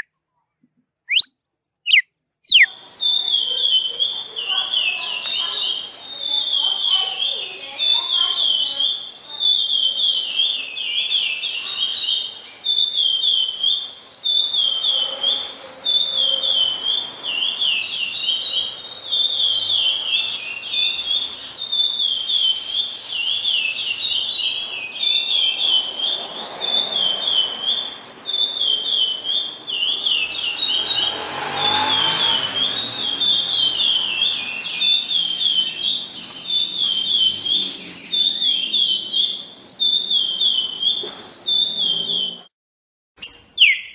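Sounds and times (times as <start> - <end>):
songbird whistling: 1.1 - 42.5, 43.2 - 43.9.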